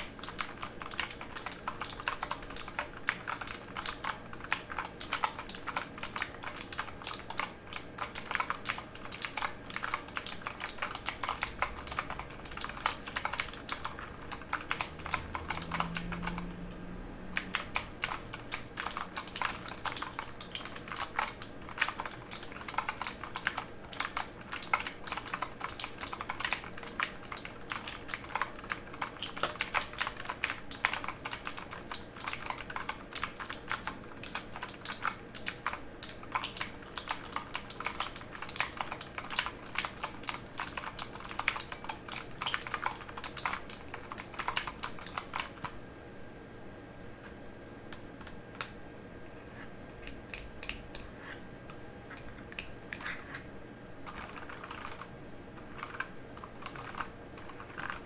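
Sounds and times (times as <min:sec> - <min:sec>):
typing on mechanical keyboard: 0:00.0 - 0:16.7, 0:17.3 - 0:45.8, 0:54.0 - 0:58.0.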